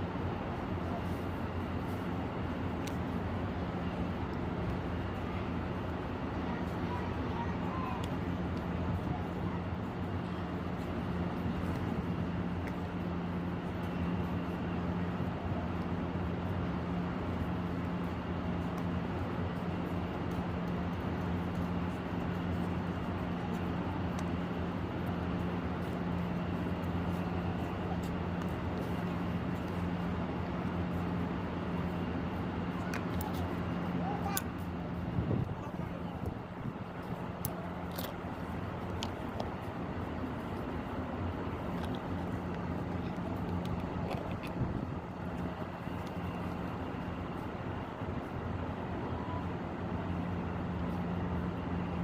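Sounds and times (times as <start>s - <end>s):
constant noisy background: 0.0s - 52.0s
steady low hum: 0.0s - 52.0s.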